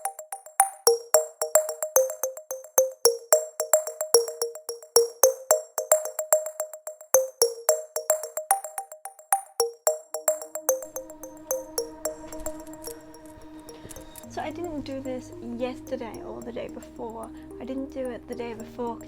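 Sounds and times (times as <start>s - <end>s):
light electronic music: 0.0s - 19.0s.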